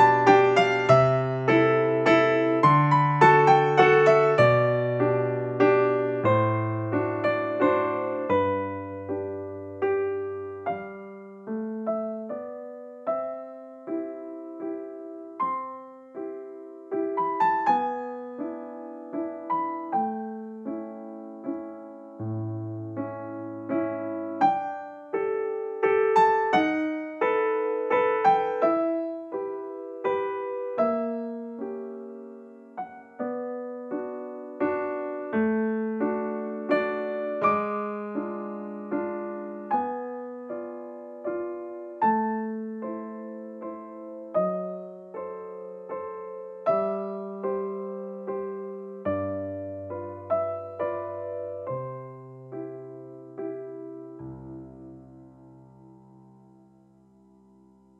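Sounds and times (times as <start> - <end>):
gentle piano music: 0.0 - 57.9.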